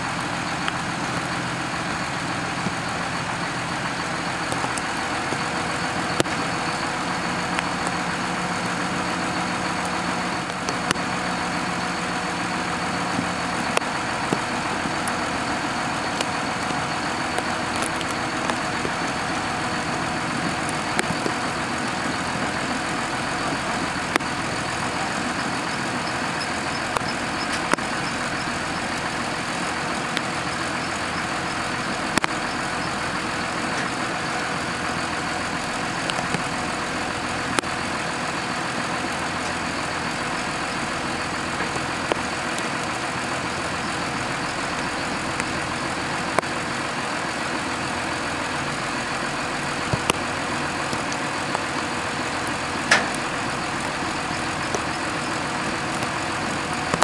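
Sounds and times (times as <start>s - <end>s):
tractor diesel engines idling: 0.0s - 57.0s.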